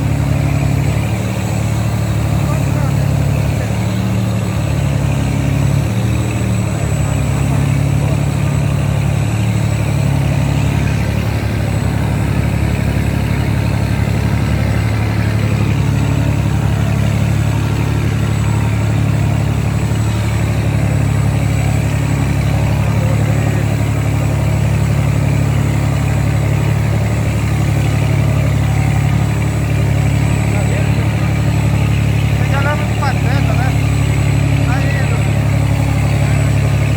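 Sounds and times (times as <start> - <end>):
boat engine humming: 0.0 - 36.9.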